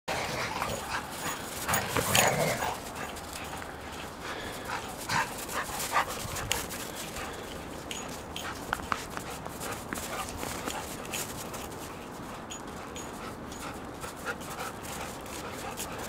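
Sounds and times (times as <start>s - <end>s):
dogs vocalising while playing: 0.1s - 16.0s.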